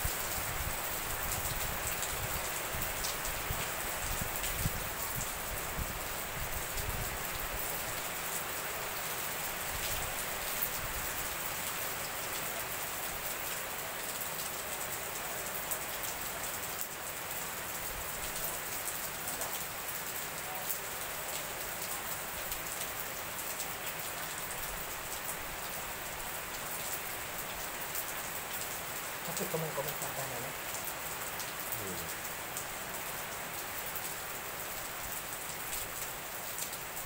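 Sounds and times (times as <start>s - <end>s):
heavy rain on standing water: 0.0s - 37.0s.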